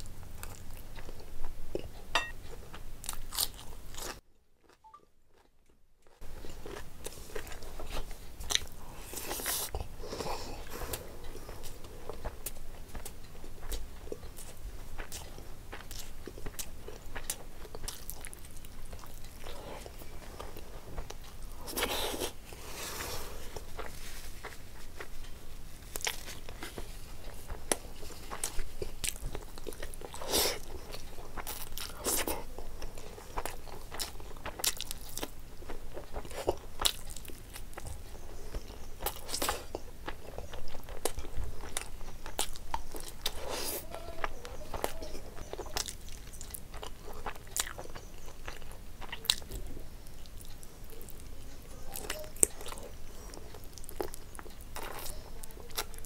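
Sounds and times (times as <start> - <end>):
person chewing and crunching: 0.0 - 56.0.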